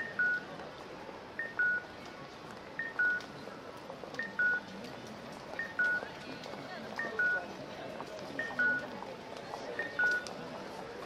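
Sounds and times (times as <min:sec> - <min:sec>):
crowd murmur: 0:00.0 - 0:11.0.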